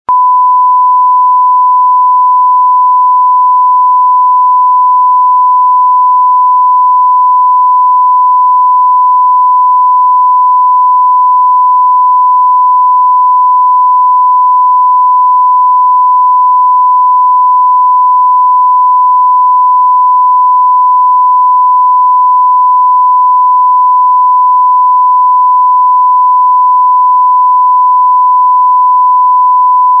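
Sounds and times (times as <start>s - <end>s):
censor bleep tone: 0.1s - 30.0s.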